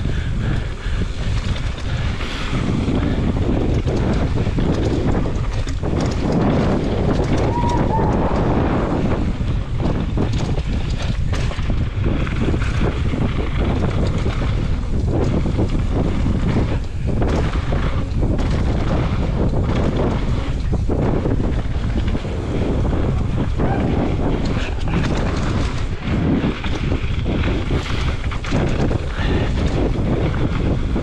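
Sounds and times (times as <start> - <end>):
bike knocking and rattling: 0.0 - 31.0
wind rumbling on microphone: 0.0 - 31.0.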